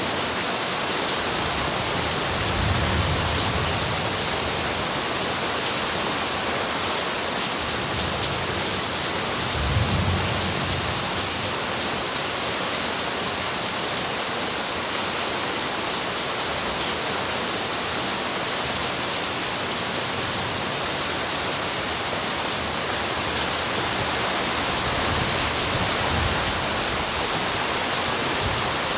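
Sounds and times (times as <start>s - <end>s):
steady rain: 0.0s - 28.9s.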